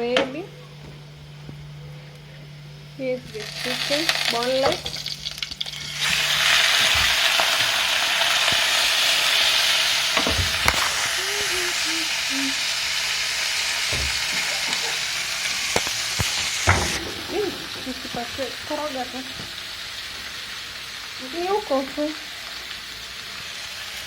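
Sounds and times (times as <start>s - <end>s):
chicken sizzling in hot oil: 3.3s - 24.0s.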